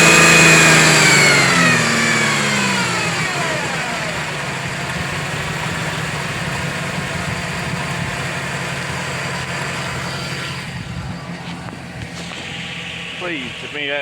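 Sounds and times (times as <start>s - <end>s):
engine whine: 0.0s - 14.0s
truck engine idling: 0.0s - 14.0s.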